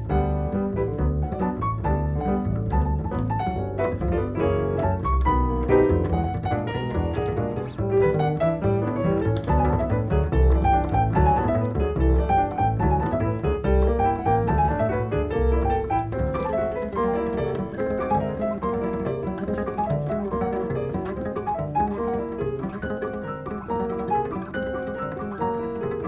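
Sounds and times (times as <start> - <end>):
jazz piano: 0.0 - 26.0
plucked double bass: 0.0 - 26.0.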